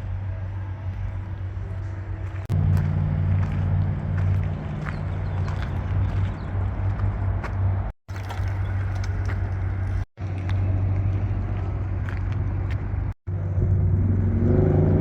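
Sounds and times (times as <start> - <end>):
car traffic rumble: 0.0 - 15.0.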